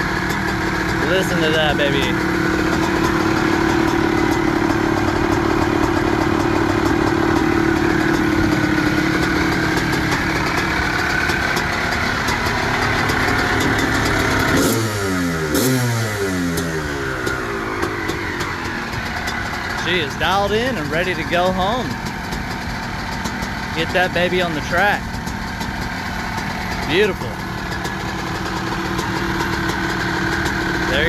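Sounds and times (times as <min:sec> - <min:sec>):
two-stroke engine running and revving: 0:00.0 - 0:31.0.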